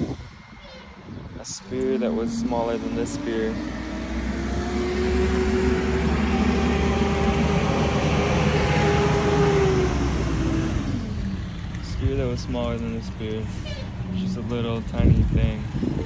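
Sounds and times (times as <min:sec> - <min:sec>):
vehicle engine drone passing: 0:00.0 - 0:16.0.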